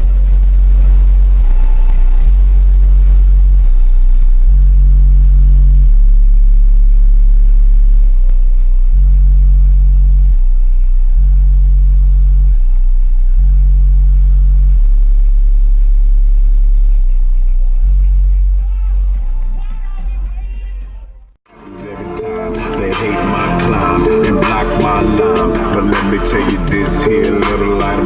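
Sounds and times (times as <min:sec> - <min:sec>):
loud deep bass from subwoofers: 0:00.0 - 0:28.0.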